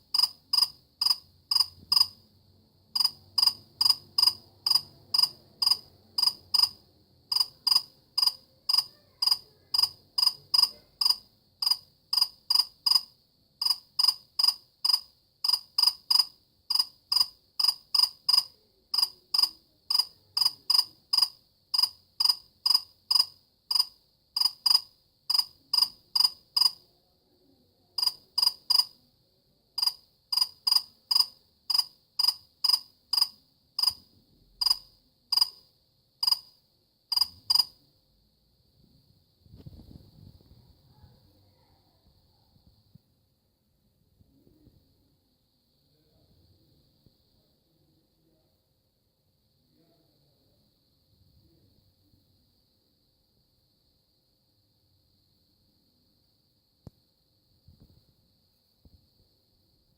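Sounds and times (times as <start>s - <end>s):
cricket chirping: 0.0s - 43.2s, 44.2s - 59.9s.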